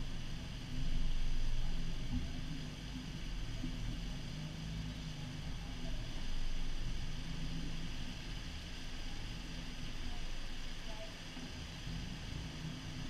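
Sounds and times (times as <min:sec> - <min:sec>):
off-road vehicle engine rumbling: 0:00.0 - 0:13.0.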